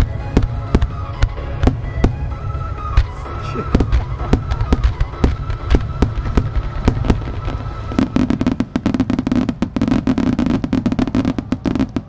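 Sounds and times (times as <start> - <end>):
firework shells booming: 0.0 - 12.0
fireworks crackling pops: 0.0 - 12.0.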